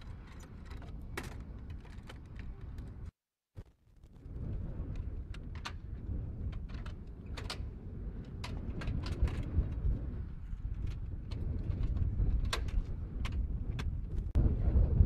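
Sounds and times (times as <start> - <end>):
wind rumble on microphone: 0.0 - 3.1, 3.9 - 15.0.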